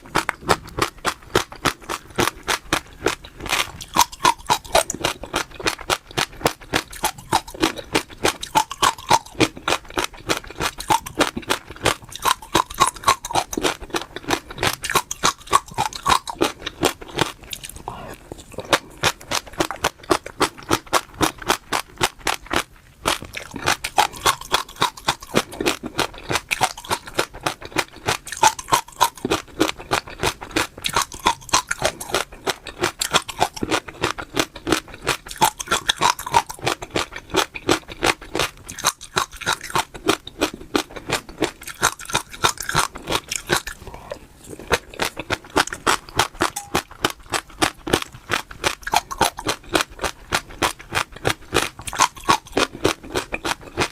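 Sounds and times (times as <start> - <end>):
crunchy seeds chewing: 0.0 - 53.9.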